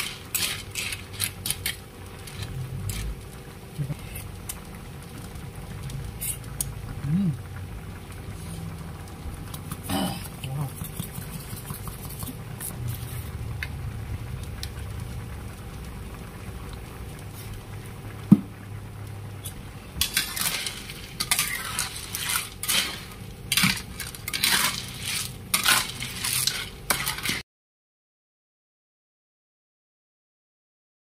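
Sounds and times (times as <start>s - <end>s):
broth bubbling and clinking: 0.0s - 27.2s
low steady hum: 0.0s - 27.4s.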